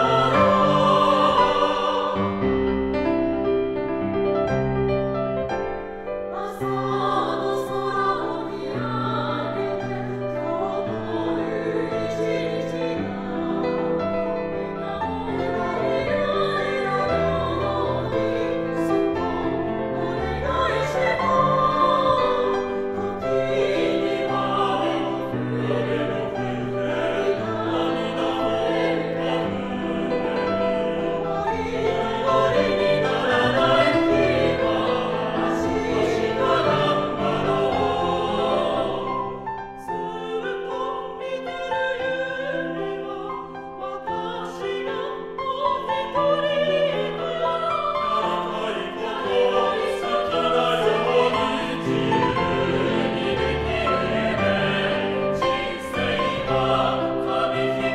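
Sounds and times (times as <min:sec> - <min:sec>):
choir singing pop song: 0:00.0 - 0:02.7, 0:06.3 - 0:57.9
piano accompaniment: 0:00.0 - 0:57.9.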